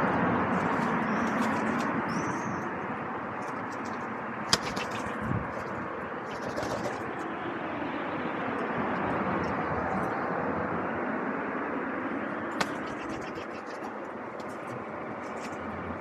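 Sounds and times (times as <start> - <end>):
distant traffic hum: 0.0 - 16.0.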